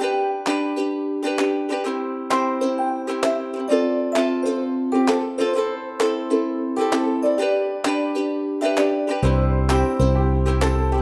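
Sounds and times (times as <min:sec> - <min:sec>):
strummed plucked-string chords: 0:00.0 - 0:11.0.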